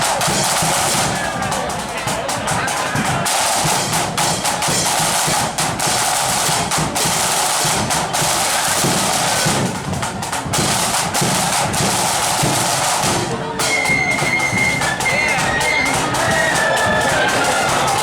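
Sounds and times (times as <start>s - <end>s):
marching drums: 0.0s - 18.0s.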